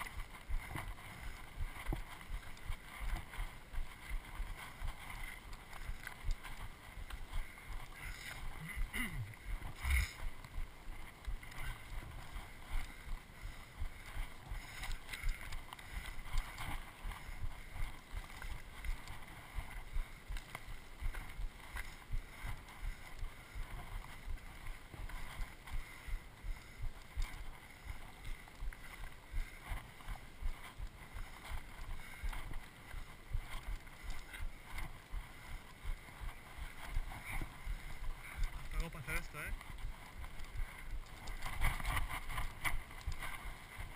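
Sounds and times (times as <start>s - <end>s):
footsteps on gravel: 0.0s - 43.9s.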